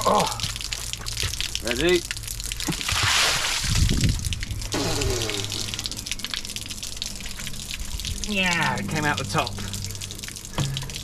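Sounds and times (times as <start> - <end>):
rainwater gushing from downpipe: 0.0 - 11.0.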